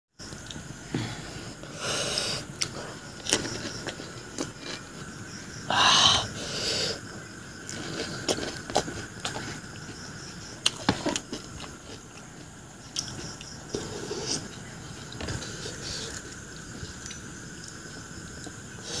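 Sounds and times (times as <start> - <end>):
hissy mouth and breath noises: 0.6 - 10.5, 13.0 - 19.0
chewing with crunches: 2.4 - 5.6, 7.0 - 19.0.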